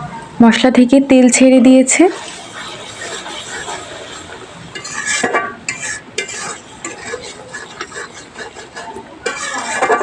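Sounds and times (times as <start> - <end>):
spatula scraping a pan: 1.9 - 10.0.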